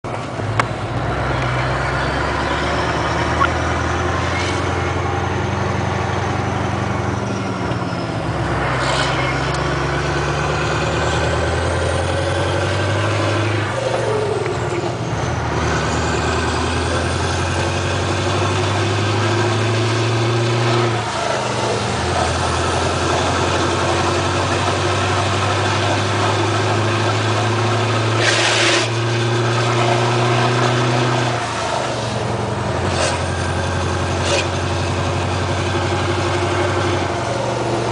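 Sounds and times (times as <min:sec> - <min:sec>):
diesel truck accelerating: 0:00.0 - 0:37.9.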